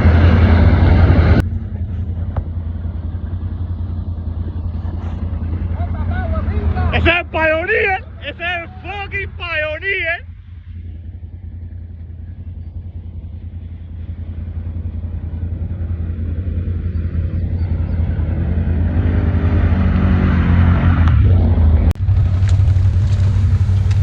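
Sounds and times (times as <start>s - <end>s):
engine approaching: 0.0s - 24.0s
off-road vehicle engines humming: 0.0s - 24.0s.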